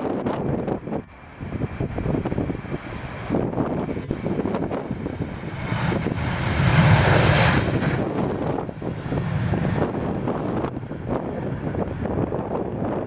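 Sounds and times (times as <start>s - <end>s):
jet airliner passing: 0.0s - 13.0s
wind buffeting microphone: 0.0s - 13.0s.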